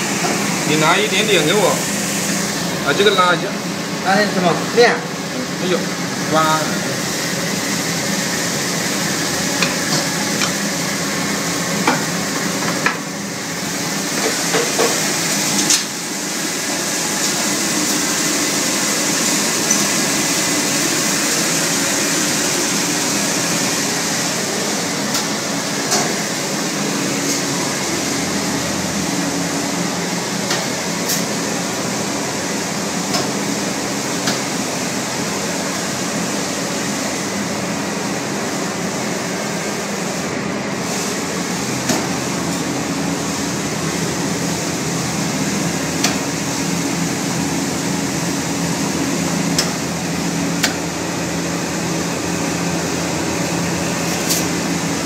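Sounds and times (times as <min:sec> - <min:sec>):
furnace machinery hiss and hum: 0:00.0 - 0:55.0.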